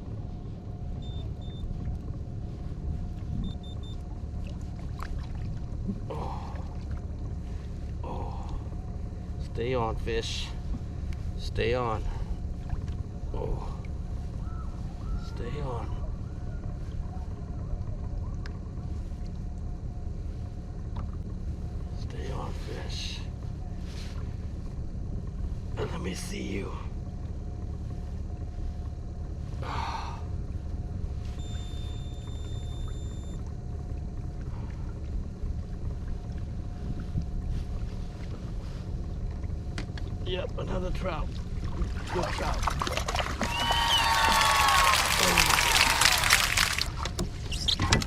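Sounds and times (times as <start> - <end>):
boat motor rumbling: 0.0 - 48.0
faint steady hum: 0.0 - 48.0
water: 0.0 - 48.0.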